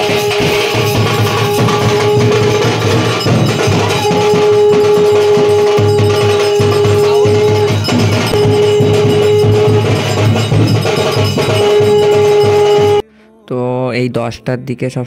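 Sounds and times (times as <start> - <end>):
rhythmic percussion: 0.0 - 13.0
long held note: 0.0 - 13.4.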